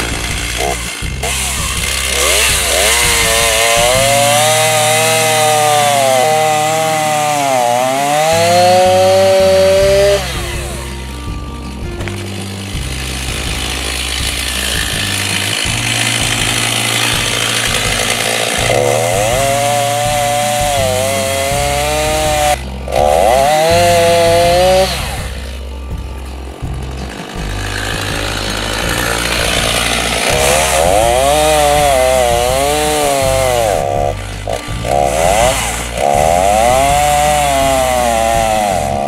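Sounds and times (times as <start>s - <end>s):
chainsaw cutting a log: 0.0s - 39.0s.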